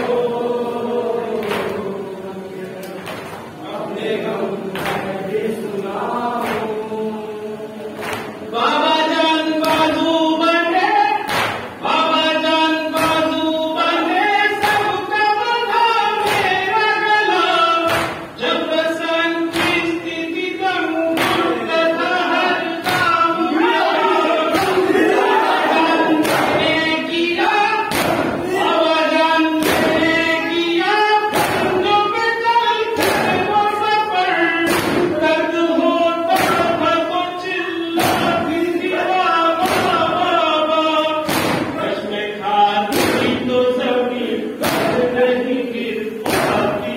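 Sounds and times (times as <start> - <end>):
mourners singing along: 0.0 - 46.9.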